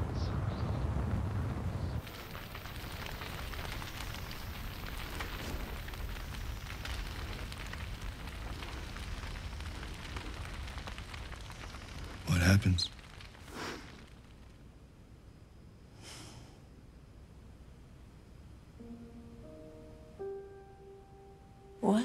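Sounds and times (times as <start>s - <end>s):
fire crackling: 0.0s - 21.4s.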